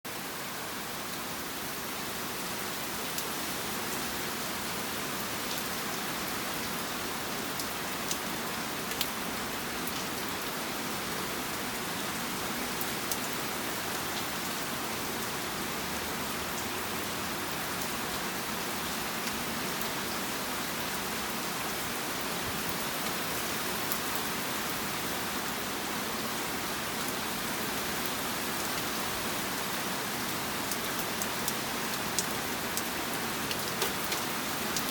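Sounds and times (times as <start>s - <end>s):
rain on hard surfaces: 0.1s - 34.9s.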